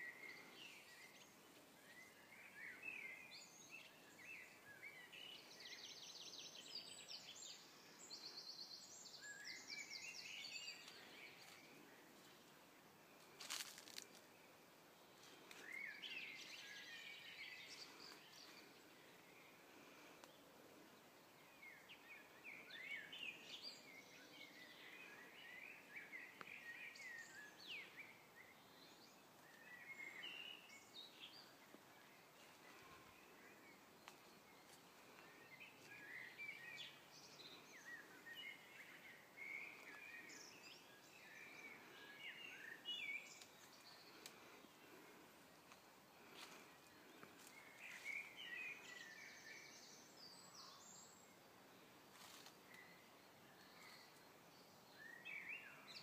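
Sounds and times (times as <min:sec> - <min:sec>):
background hiss: 0:00.0 - 0:56.0
small birds chirping and twittering: 0:00.0 - 0:56.0.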